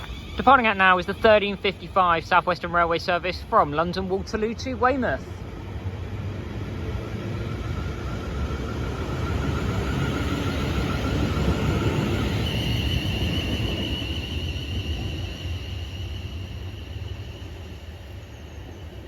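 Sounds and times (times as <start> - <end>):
electric train pulling away: 0.0 - 19.0.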